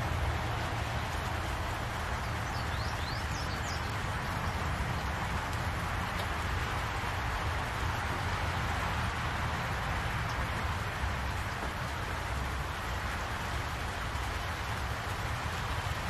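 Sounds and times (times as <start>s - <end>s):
rain on leaves: 0.0s - 16.0s.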